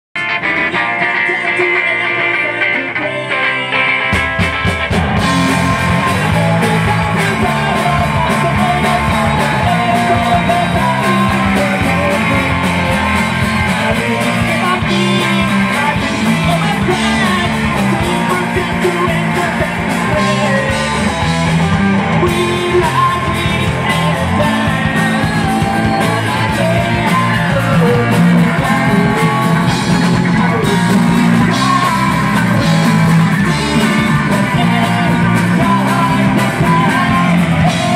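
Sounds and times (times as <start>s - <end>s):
bass guitar: 0.2s - 37.9s
electric guitar: 0.2s - 37.9s
person singing: 0.2s - 37.9s
drum kit: 3.8s - 37.9s.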